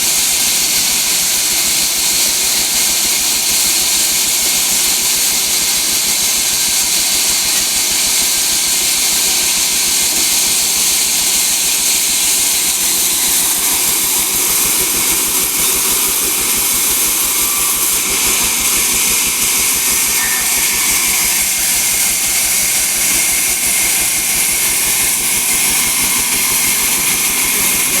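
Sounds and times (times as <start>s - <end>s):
sawmill saw running: 0.0s - 28.0s.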